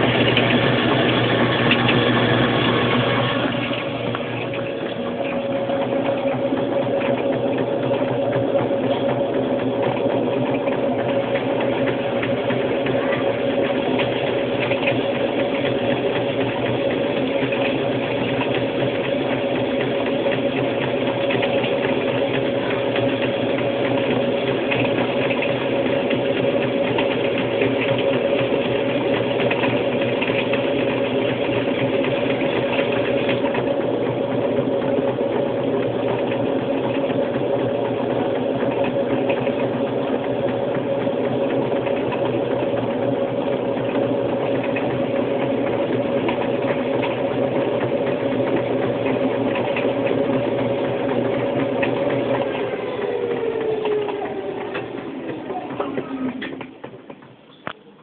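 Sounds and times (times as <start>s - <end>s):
washing machine spin cycle: 0.0s - 58.0s.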